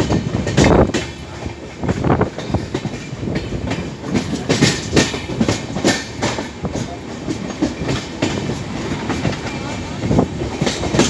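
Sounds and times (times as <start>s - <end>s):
train rumble: 0.0s - 11.0s
train wheels clacking over rail joints: 0.0s - 11.0s.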